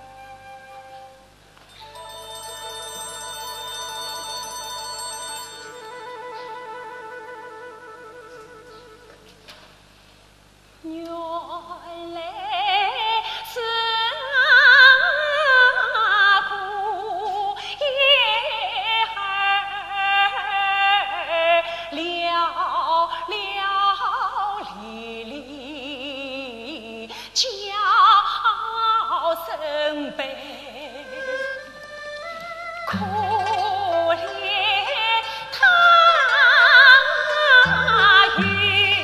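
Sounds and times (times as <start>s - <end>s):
woman singing opera aria: 1.8s - 9.2s, 10.8s - 39.0s.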